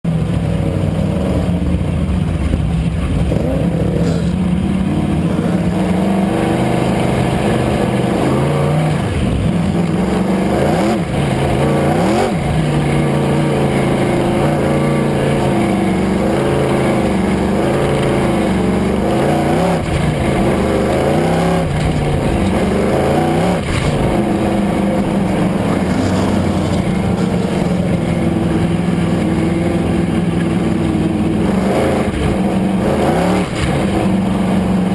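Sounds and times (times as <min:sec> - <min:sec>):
race car engine accelerating: 0:00.1 - 0:34.9.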